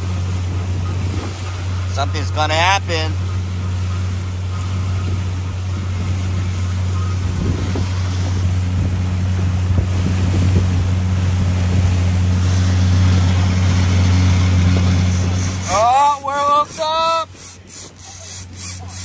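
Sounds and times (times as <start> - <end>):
boat engine low drone: 0.0 - 19.0
water noise: 0.0 - 19.0
wind: 0.0 - 19.0.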